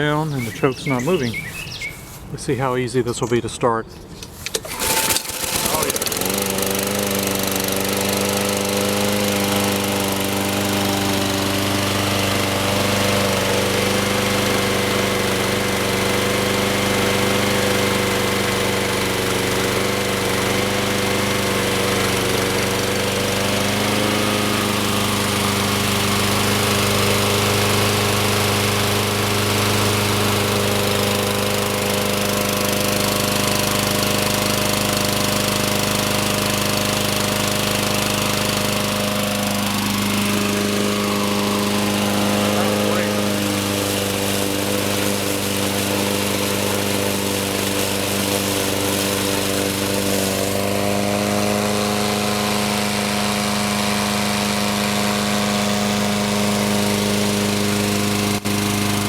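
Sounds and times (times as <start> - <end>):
lawn mower engine running: 0.0 - 3.3, 4.0 - 59.0.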